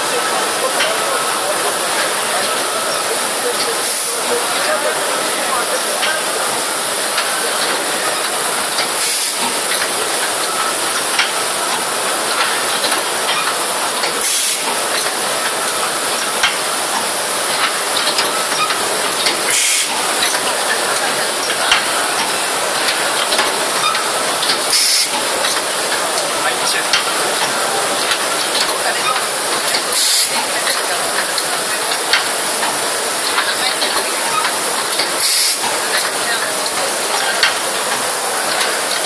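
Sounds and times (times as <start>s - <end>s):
machine hissing: 0.0s - 39.0s
light pneumatic clicks: 7.1s - 39.0s.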